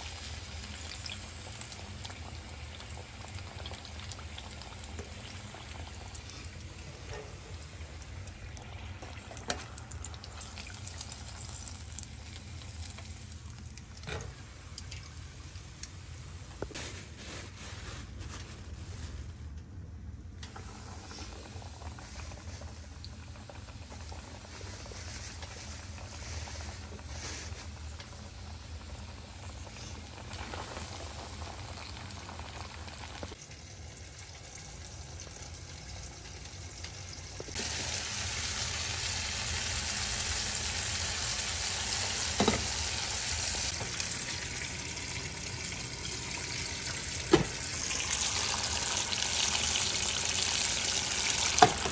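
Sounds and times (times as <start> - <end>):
chicken deep-frying in oil: 0.0 - 19.6, 20.4 - 51.9.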